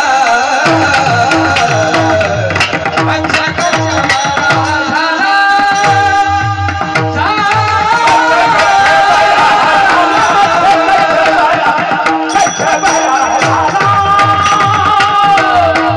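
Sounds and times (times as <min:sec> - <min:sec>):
person singing: 0:00.0 - 0:15.9.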